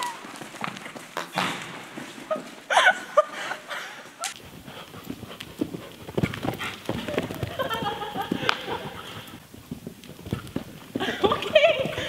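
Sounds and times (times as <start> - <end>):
horse hooves thudding: 0.0 - 12.0.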